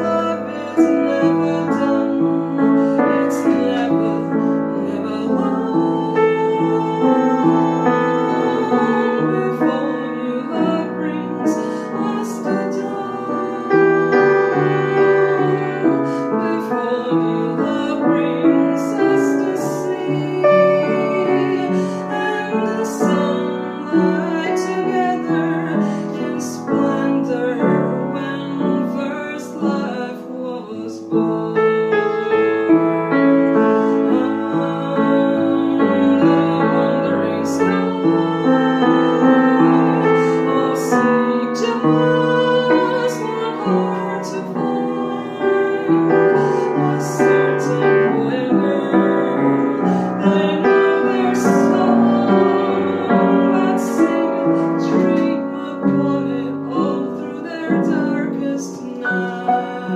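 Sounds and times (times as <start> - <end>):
slow piano: 0.0 - 59.9
woman singing: 0.0 - 59.9.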